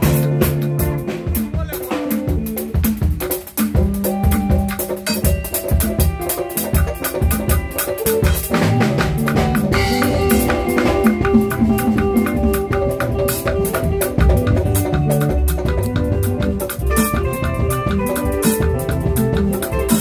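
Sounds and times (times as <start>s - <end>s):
drum kit beat with cymbals: 0.0s - 20.0s
keyboard melody: 0.0s - 20.0s.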